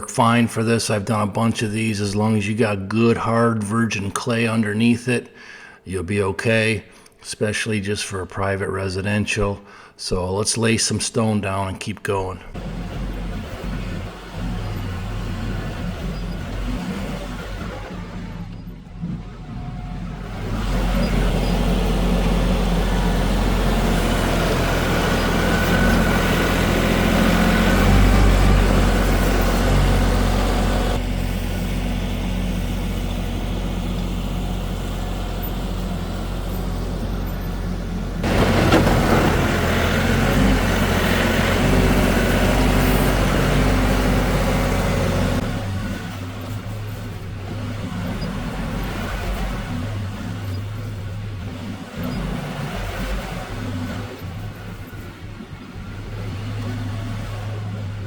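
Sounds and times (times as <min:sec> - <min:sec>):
tractor diesel engine running: 0:00.0 - 0:05.7, 0:12.4 - 0:58.0.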